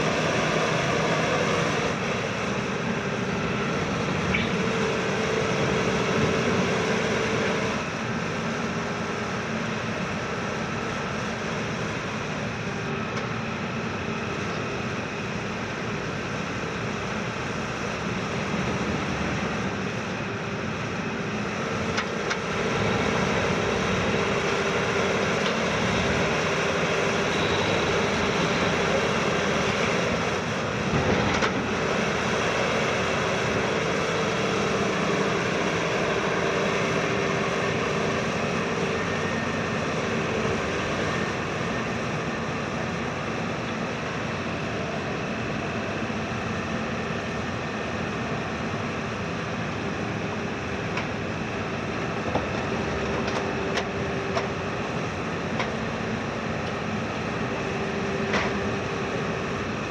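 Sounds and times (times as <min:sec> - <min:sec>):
excavator engine running: 0:00.0 - 0:59.9
steady hydraulic whine: 0:00.0 - 0:59.9.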